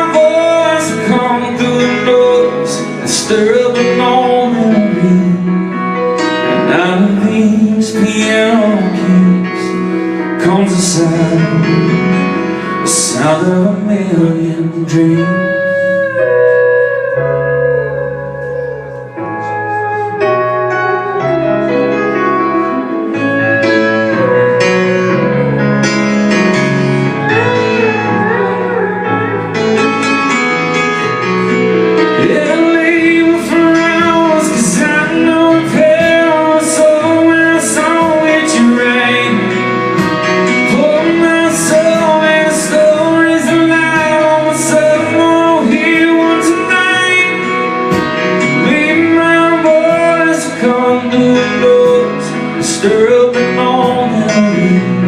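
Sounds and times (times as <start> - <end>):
live country band: 0.0 - 55.0
piano: 0.0 - 55.0.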